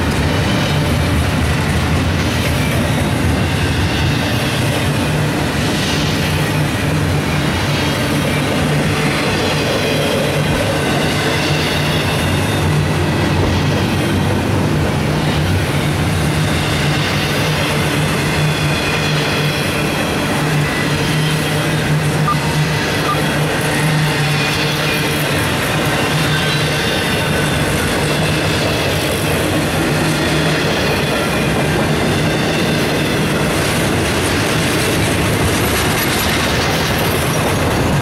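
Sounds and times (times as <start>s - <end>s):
freight train wheels clattering: 0.0s - 22.2s, 22.8s - 38.0s.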